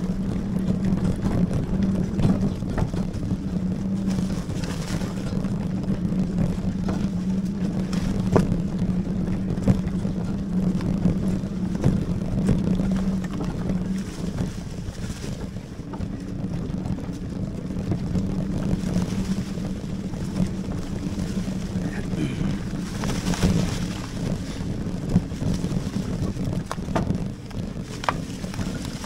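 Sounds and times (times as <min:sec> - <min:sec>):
electric motor humming: 0:00.0 - 0:29.0
wind buffeting microphone: 0:00.0 - 0:29.0
bike knocks and rattles: 0:03.8 - 0:29.0.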